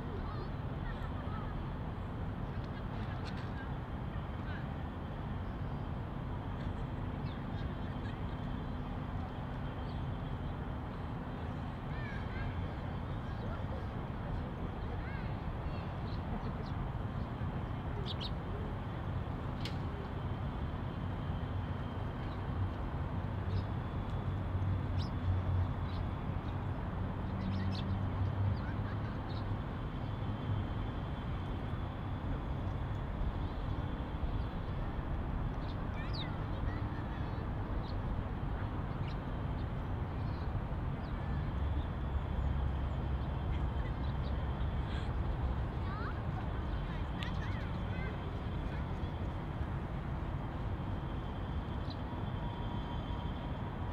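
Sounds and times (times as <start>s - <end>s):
low outdoor rumble: 0.0s - 53.9s.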